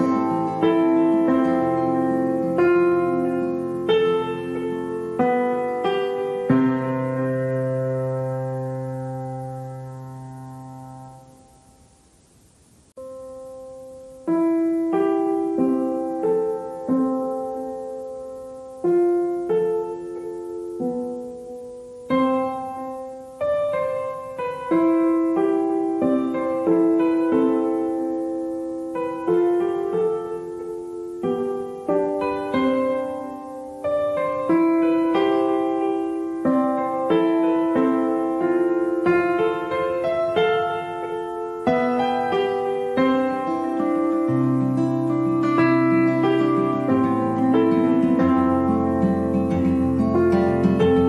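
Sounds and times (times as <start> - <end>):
slow gentle piano music: 0.0 - 12.0, 12.9 - 51.0.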